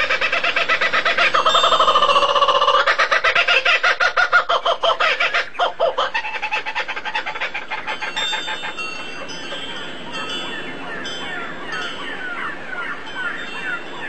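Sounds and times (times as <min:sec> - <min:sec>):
bird chattering calls: 0:00.0 - 0:13.9.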